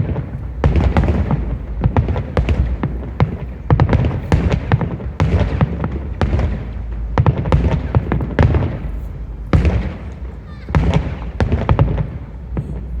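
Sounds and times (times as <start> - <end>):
deep rumble of booms: 0.0 - 13.0
fireworks bangs and crackle: 0.0 - 13.0.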